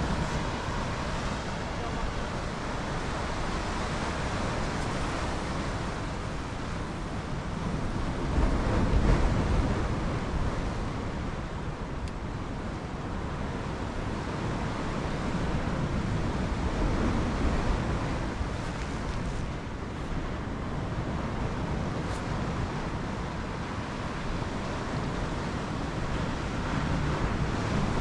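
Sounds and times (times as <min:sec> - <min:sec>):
surf washing against rocks: 0:00.0 - 0:28.0
wind on microphone: 0:00.0 - 0:28.0.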